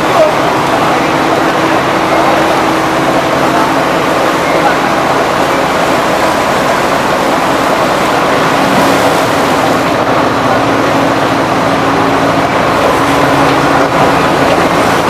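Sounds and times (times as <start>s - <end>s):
mill machinery running: 0.0s - 15.0s.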